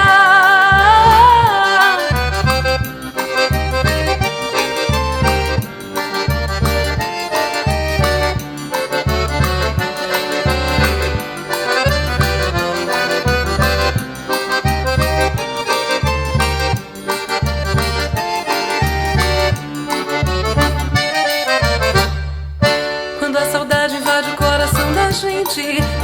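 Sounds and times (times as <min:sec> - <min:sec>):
steady low beat: 0:00.0 - 0:23.2
accordion melody: 0:00.0 - 0:26.0.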